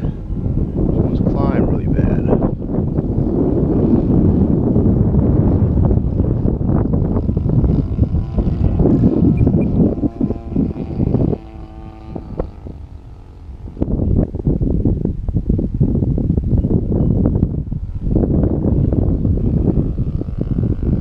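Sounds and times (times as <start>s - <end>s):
model plane engine droning: 0.0s - 21.0s
wind buffeting microphone: 0.0s - 21.0s.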